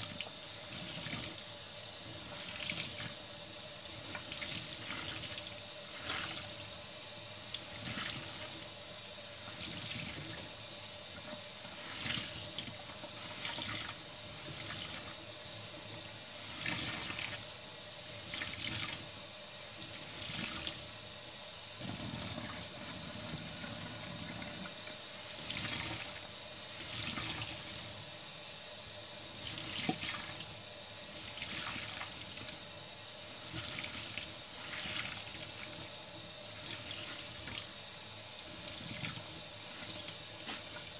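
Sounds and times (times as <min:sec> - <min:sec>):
tap water running into sink: 0:00.0 - 0:32.8, 0:33.4 - 0:40.9.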